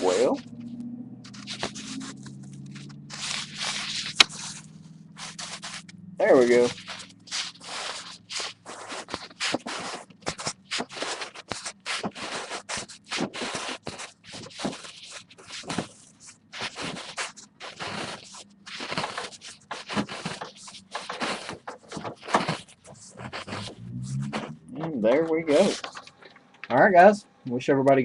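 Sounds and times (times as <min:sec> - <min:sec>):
printer scraping passes: 0:00.0 - 0:27.2.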